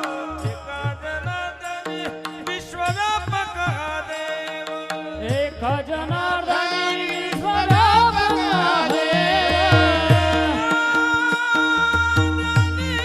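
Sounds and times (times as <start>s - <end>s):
tabla beat: 0.0s - 13.0s
wavering devotional melody: 0.0s - 13.0s.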